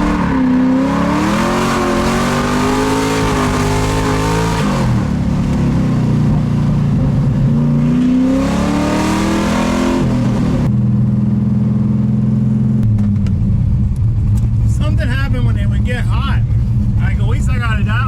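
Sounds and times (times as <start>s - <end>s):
car engine under throttle: 0.0s - 18.0s.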